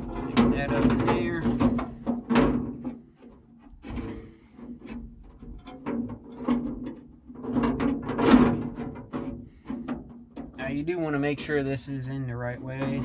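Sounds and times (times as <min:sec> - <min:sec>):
metallic knocks and clanks: 0:00.0 - 0:10.7.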